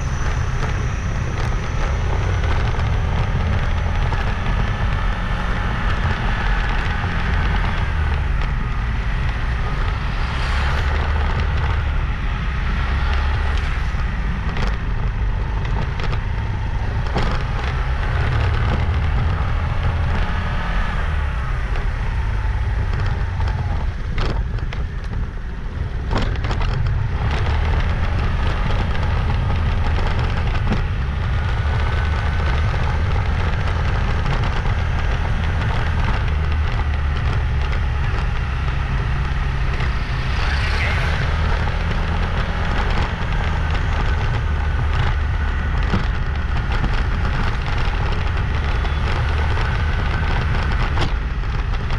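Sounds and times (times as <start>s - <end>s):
motorbike engine running: 0.0s - 51.9s
sharp clicks and knocks: 0.0s - 51.9s
wind rumble on microphone: 0.0s - 51.9s.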